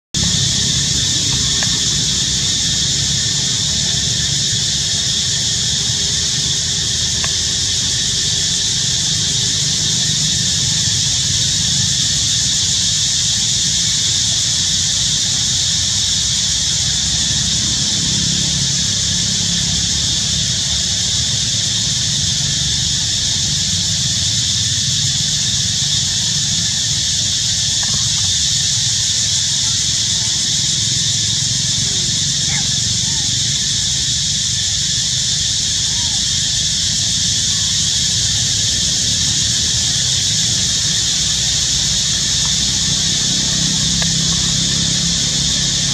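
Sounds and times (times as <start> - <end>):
insects droning: 0.0 - 45.9.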